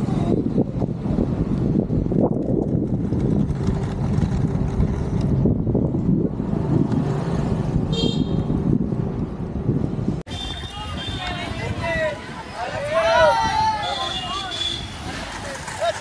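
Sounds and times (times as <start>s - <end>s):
wind buffeting microphone: 0.0s - 13.8s
skate wheels rolling on road: 0.0s - 16.0s.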